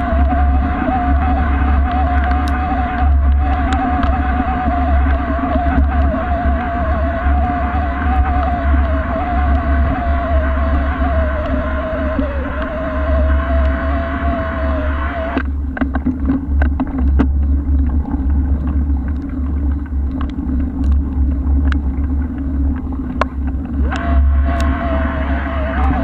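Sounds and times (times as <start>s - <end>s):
bike rumble: 0.0s - 26.0s
wind buffeting camera: 0.0s - 26.0s.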